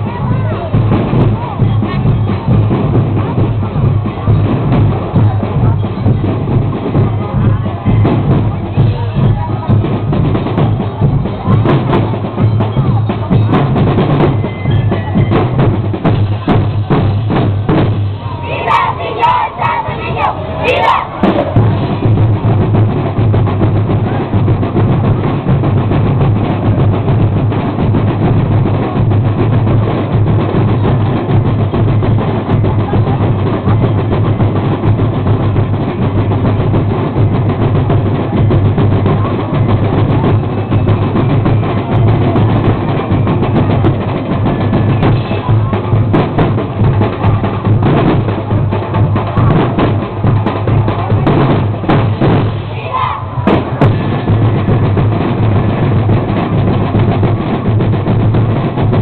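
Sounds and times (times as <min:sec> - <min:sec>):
drum band playing: 0:00.0 - 0:59.0.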